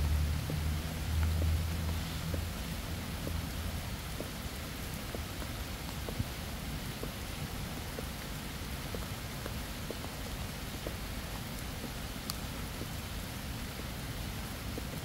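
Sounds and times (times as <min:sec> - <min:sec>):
raindrops ticking: 0:00.0 - 0:15.0
steady rain hiss: 0:00.0 - 0:15.0.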